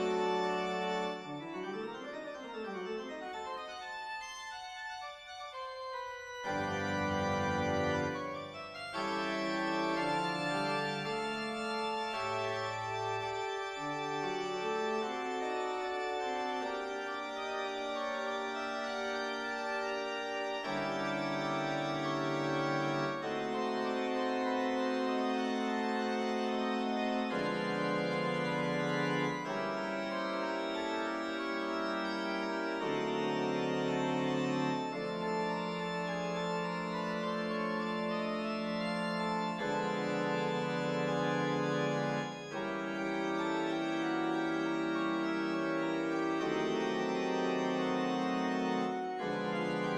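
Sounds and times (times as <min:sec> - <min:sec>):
organ playing slow chords: 0:00.0 - 0:49.9.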